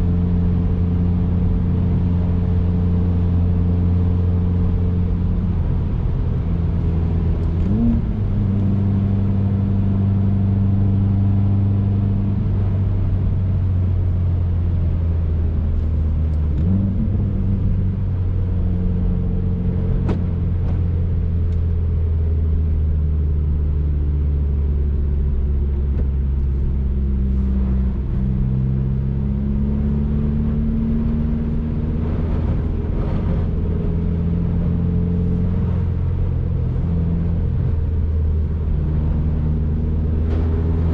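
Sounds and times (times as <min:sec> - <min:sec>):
car engine driving: 0:00.0 - 0:40.9
road noise: 0:00.0 - 0:40.9.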